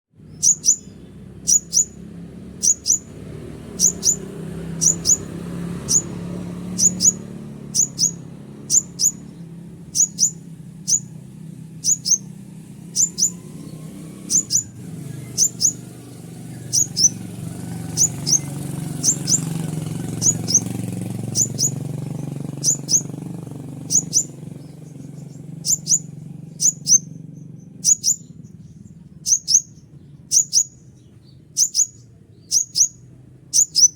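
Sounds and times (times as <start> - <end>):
bird high sharp chirps: 0.2 - 33.9
low steady rumble: 0.2 - 33.9.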